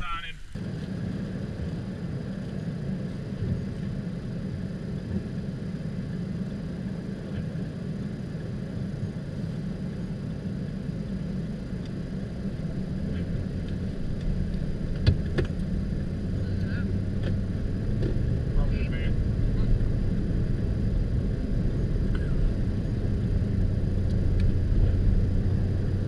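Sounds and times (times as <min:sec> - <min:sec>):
vehicle driving on snowy road: 0:00.0 - 0:26.0.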